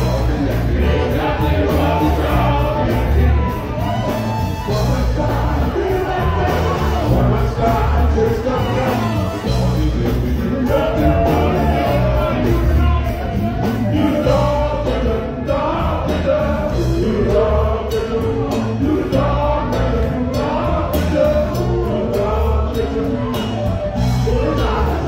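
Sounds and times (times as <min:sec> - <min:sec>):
heavy bass beat: 0:00.0 - 0:25.0
live funk band playing: 0:00.0 - 0:25.0
people singing together: 0:00.0 - 0:25.0.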